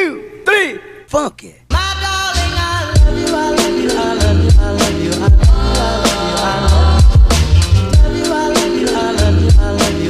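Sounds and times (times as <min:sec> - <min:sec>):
electronic music with heavy beat: 0:01.7 - 0:10.0.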